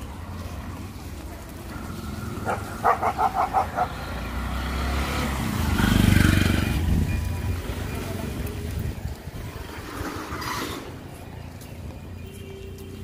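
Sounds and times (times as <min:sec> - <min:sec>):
auto-rickshaw engine passing: 0:00.0 - 0:13.0.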